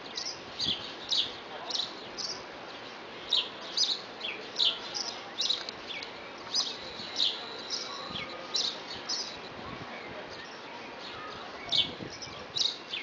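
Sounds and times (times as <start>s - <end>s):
sparrow chirping: 0.0s - 9.6s, 10.2s - 13.0s.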